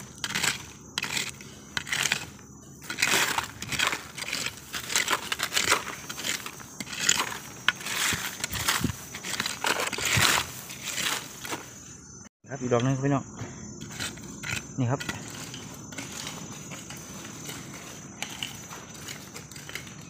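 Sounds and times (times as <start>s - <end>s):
stick scraping soil: 0.0s - 12.0s, 13.8s - 20.0s.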